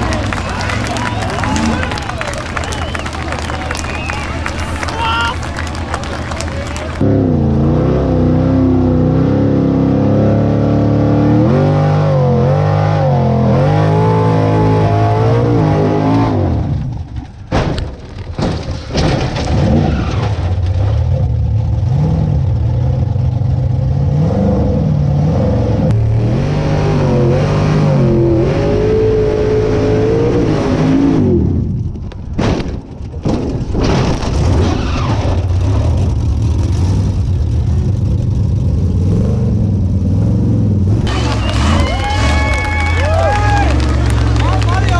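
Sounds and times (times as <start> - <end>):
buggy engine revving: 0.0 - 17.3, 19.2 - 32.2, 34.1 - 44.9.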